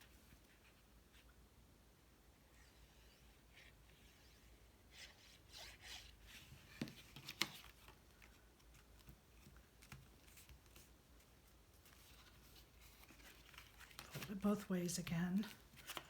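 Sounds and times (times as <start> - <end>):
cardstock rustling and rubbing: 2.6 - 16.0.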